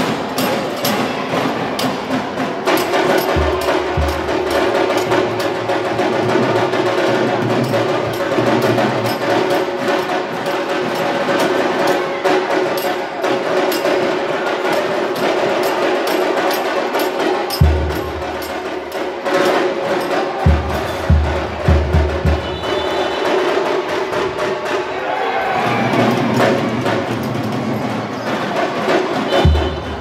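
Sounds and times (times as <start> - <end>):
drums and percussion rhythm: 0.0 - 30.0.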